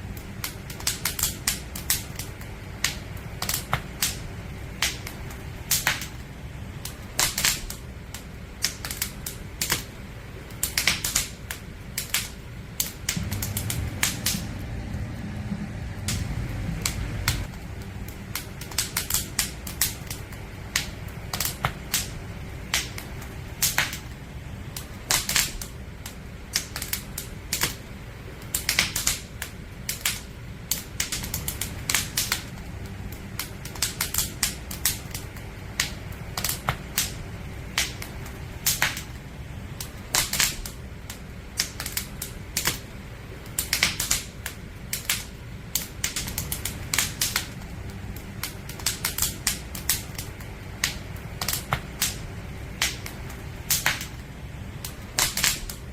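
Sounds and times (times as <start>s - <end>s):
campfire crackling and popping: 0.0s - 55.9s
low rumble of fire: 0.0s - 55.9s.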